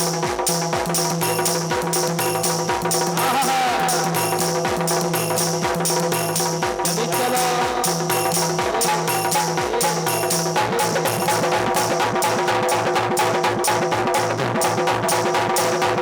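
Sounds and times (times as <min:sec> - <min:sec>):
fast drum beat: 0:00.0 - 0:16.0
stepping bass line: 0:00.0 - 0:16.0.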